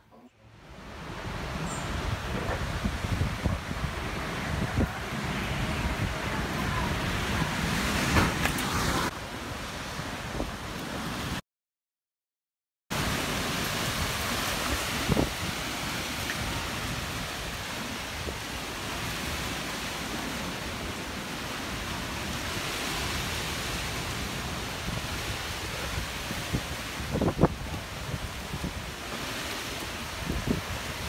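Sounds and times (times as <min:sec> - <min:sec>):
heavy rain and wind: 0:00.3 - 0:11.4, 0:12.9 - 0:31.0.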